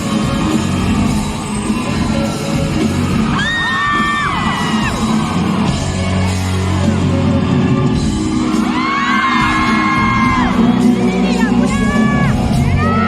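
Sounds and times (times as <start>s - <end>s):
crowd screaming: 0.0s - 13.0s
drums: 0.0s - 13.0s
live pop-rock band playing: 0.0s - 13.0s.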